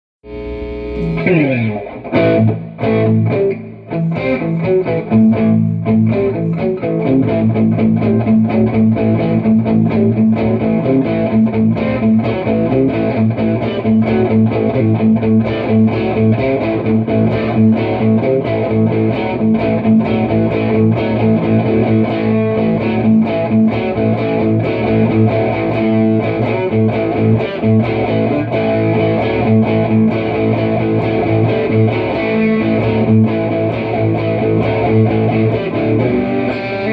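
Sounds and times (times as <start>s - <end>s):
distorted electric guitar: 0.2s - 36.9s.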